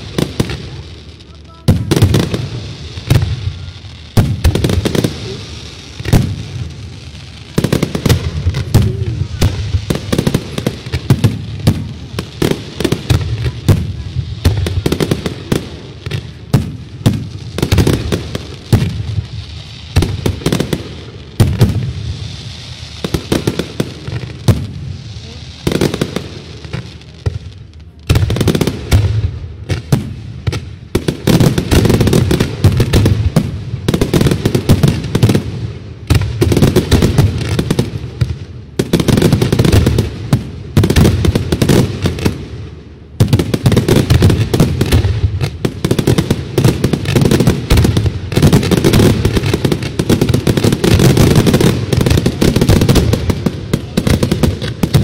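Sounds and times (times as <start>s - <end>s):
hissing crackle: 0.0s - 55.0s.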